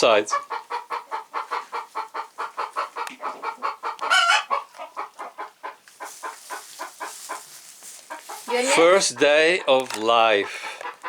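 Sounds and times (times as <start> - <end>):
chicken clucking: 0.0 - 11.0.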